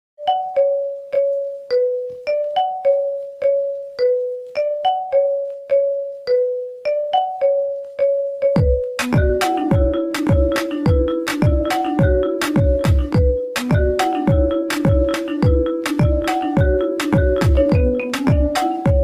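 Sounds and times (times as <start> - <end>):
piano-like ringtone melody: 0.2 - 19.0.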